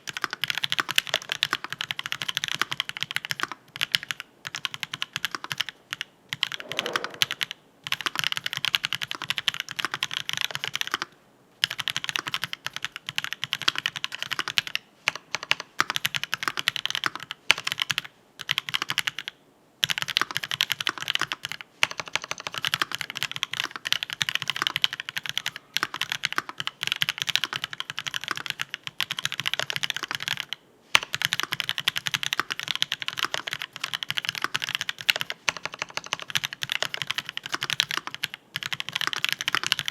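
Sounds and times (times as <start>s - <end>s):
mechanical keyboard typing: 0.0s - 7.4s, 8.0s - 14.6s, 15.3s - 39.9s.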